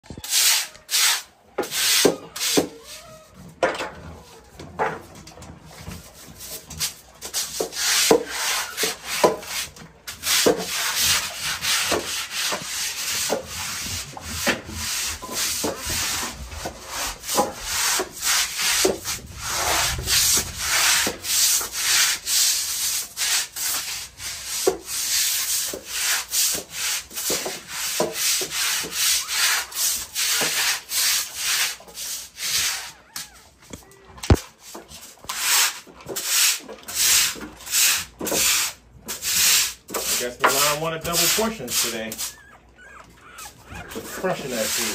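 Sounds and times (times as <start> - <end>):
push broom scrubbing wet concrete: 0.2 - 2.9, 6.1 - 32.9, 34.6 - 42.4, 43.8 - 44.9.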